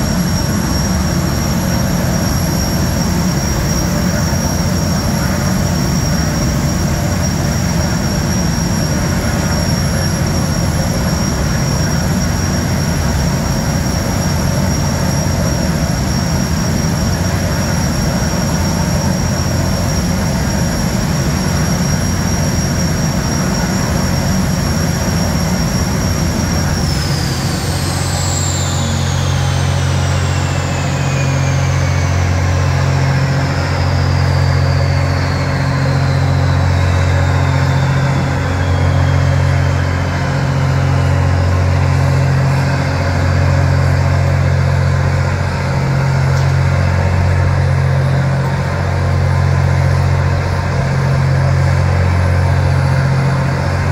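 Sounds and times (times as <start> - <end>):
gas turbine whine spooling down: 0.0 - 53.9
low pulsing hum: 0.0 - 53.9.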